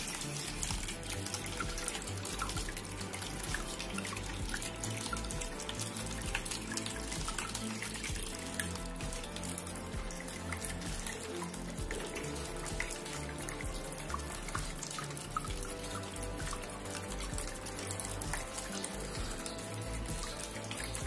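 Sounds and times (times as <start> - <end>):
background music: 0.0 - 21.0
fountain water splashing: 0.0 - 21.0.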